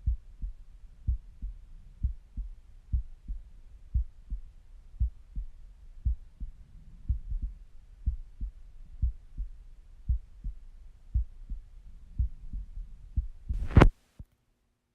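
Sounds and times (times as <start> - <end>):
heartbeat through stethoscope: 0.0 - 13.9.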